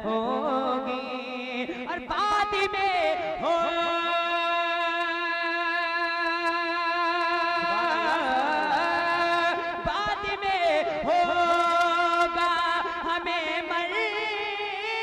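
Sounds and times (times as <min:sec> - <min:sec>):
man singing melismatic melody: 0:00.0 - 0:15.0.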